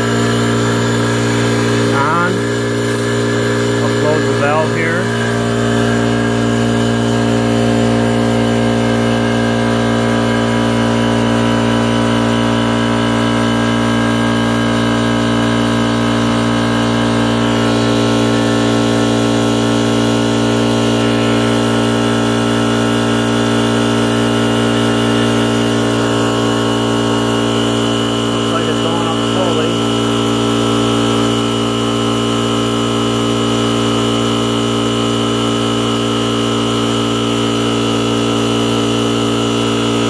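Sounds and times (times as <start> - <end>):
air compressor running: 0.0 - 40.0.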